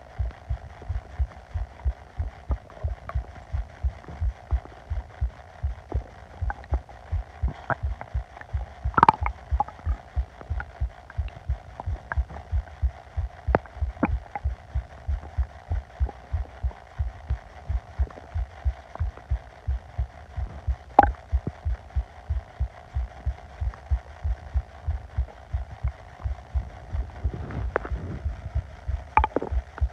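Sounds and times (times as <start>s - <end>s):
low pulse thumping: 0.0s - 29.9s
stomach gurgles and clicks: 0.0s - 29.9s.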